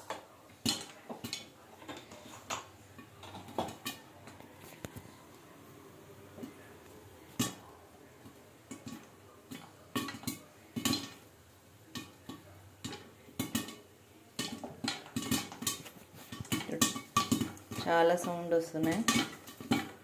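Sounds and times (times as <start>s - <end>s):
popcorn popping: 0.0s - 20.0s.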